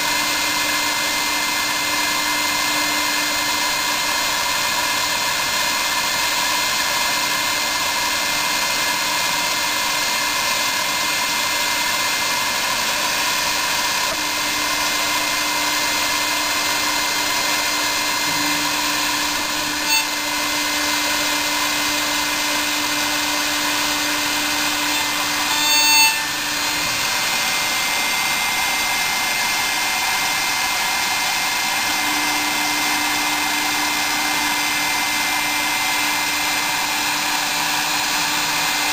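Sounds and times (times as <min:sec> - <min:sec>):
loud cutting screech: 0:00.0 - 0:38.9
milling machine spindle whine: 0:00.0 - 0:38.9.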